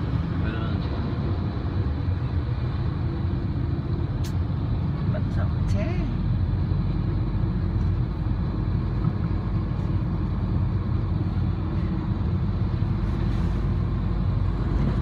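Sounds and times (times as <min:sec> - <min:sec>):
heavy road traffic: 0:00.0 - 0:15.0
vehicle engine and tyre noise: 0:00.0 - 0:15.0.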